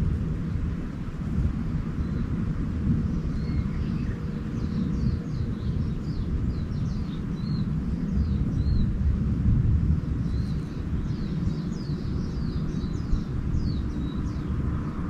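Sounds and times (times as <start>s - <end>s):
constant low rumble: 0.0s - 15.0s
small birds singing: 1.7s - 9.2s, 9.9s - 15.0s.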